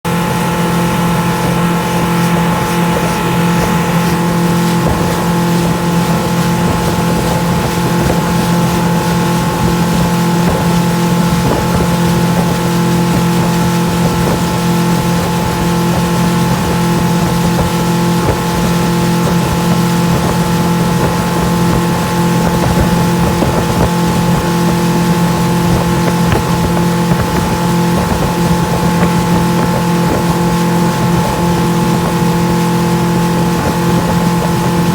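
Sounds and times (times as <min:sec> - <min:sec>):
motorboat engine droning: 0:00.0 - 0:34.9.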